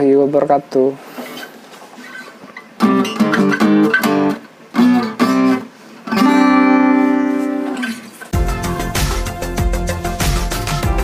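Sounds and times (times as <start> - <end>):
acoustic guitar strumming: 1.3 - 11.0.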